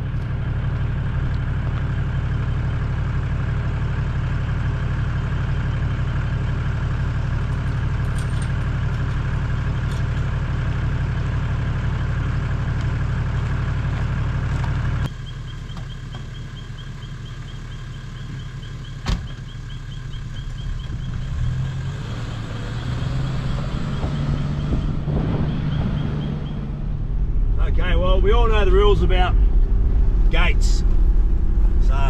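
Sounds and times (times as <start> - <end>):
car engine idling: 0.0 - 32.0
vehicle driving up: 0.0 - 32.0.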